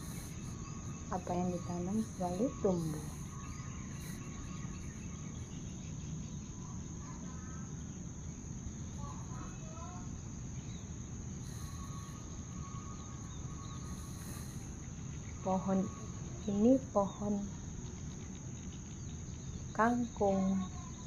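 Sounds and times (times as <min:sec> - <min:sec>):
faint bird chirps: 0:00.0 - 0:21.0
insects droning: 0:00.0 - 0:21.0.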